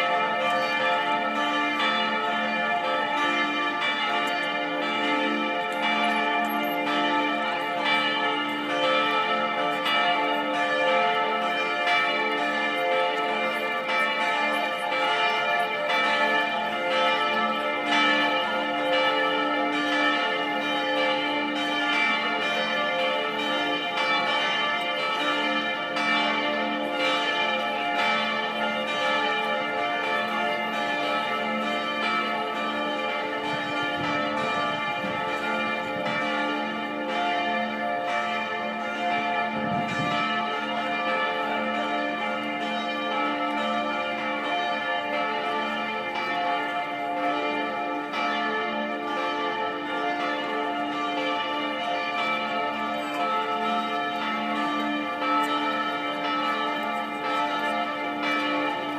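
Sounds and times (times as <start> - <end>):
large church bells pealing: 0.0 - 58.9.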